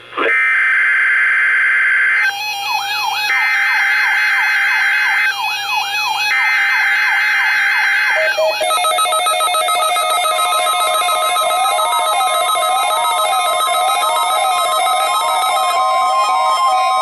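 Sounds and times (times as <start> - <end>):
electronic alert tones: 2.2 - 17.0.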